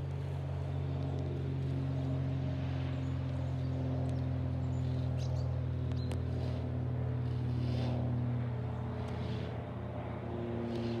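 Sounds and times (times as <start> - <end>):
propeller plane droning overhead: 0.0 - 11.0.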